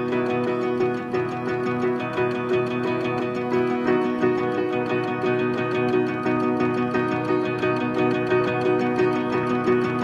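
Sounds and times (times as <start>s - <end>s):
plucked string melody: 0.0s - 10.0s.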